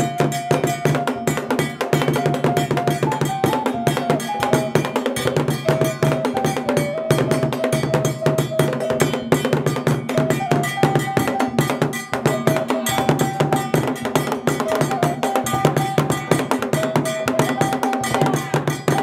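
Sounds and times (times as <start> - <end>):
wooden drums beaten fast: 0.0 - 19.0.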